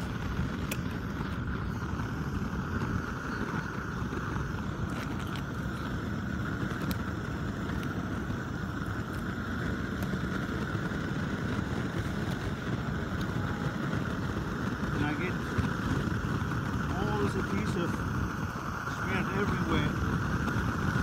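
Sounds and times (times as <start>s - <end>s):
mid-pitched hum: 0.0s - 21.0s
steady rumbling: 0.0s - 21.0s.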